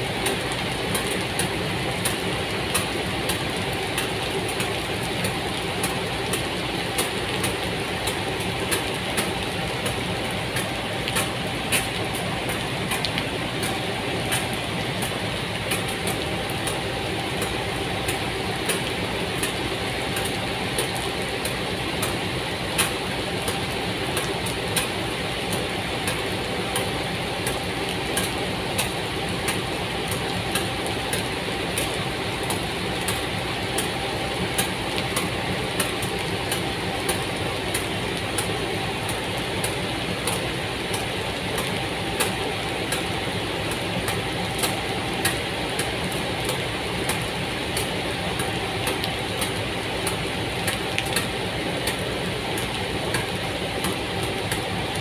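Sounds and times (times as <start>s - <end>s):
locomotive engine idling: 0.0s - 55.0s
rain falling: 0.0s - 55.0s
raindrops tapping: 0.0s - 55.0s.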